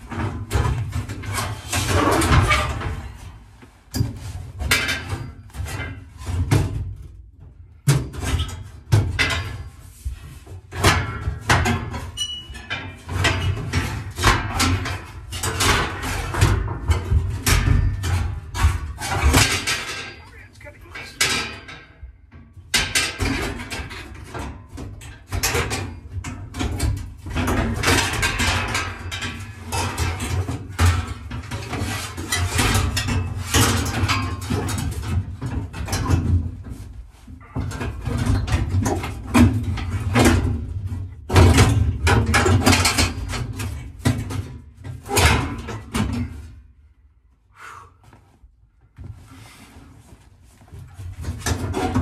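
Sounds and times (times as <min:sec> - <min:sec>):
sheet metal clattering and scraping: 0:00.0 - 0:46.9, 0:49.9 - 0:52.0.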